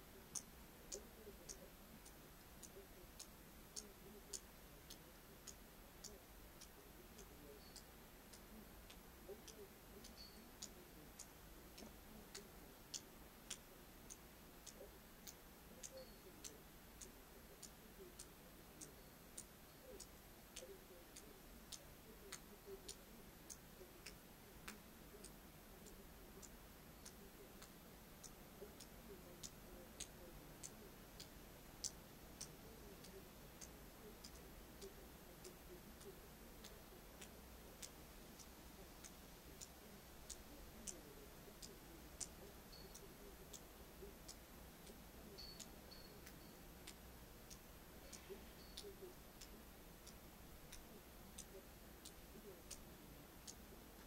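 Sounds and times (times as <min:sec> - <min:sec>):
faint light ticks: 0:00.0 - 0:54.0
low steady hiss: 0:00.0 - 0:54.0.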